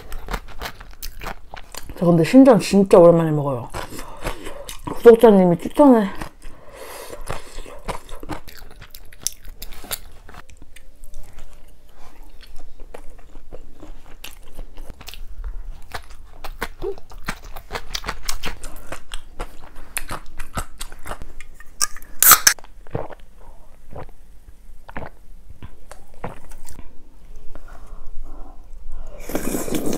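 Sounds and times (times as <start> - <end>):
chewing and crunching food: 0.0 - 24.2, 24.8 - 28.1.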